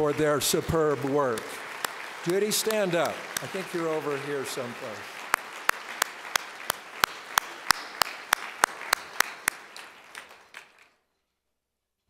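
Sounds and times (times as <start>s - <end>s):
audience applause: 0.0s - 11.0s
loud close hand claps: 0.0s - 11.0s.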